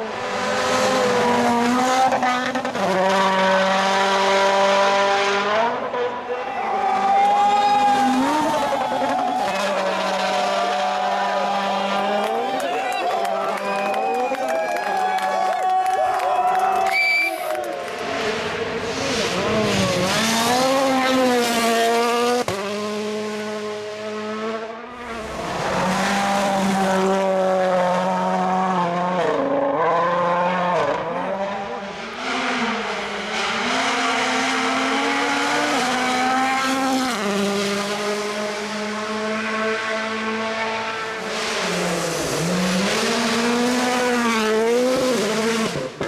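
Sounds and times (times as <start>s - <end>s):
rally car engines revving: 0.0s - 14.2s, 17.3s - 46.0s.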